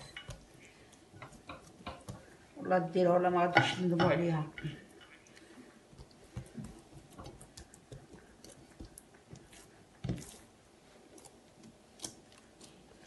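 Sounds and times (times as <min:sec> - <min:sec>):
fingers squishing bread dough: 0:00.0 - 0:02.6, 0:04.7 - 0:13.0.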